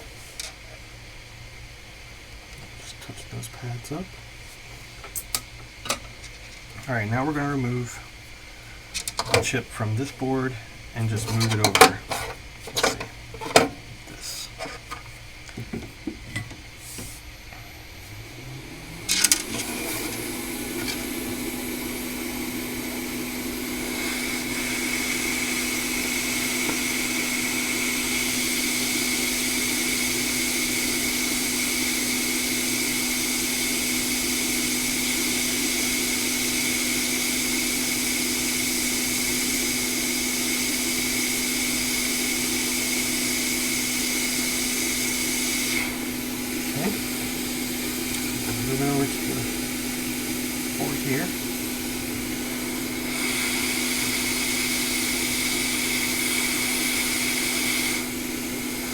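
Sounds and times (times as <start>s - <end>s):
hot air fan whining and hissing: 0.0s - 58.9s.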